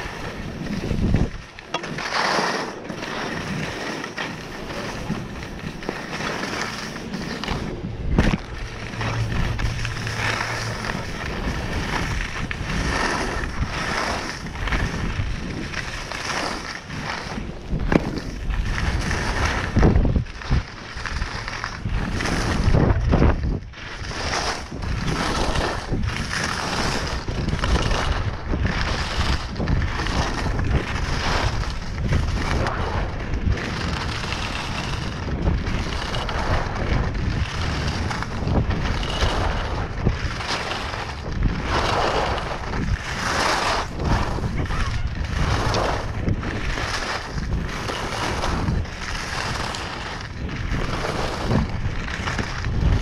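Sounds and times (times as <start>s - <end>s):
skis sliding over snow: 0.0s - 53.0s
wind rumbling on microphone: 0.0s - 53.0s.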